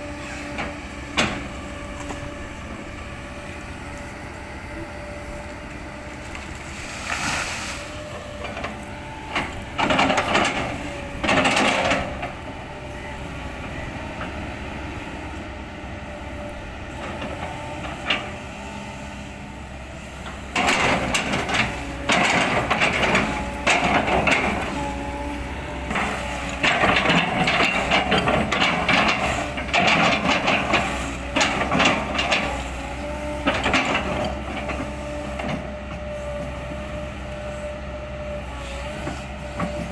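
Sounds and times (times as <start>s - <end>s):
excavator engine whining: 0.0s - 39.9s.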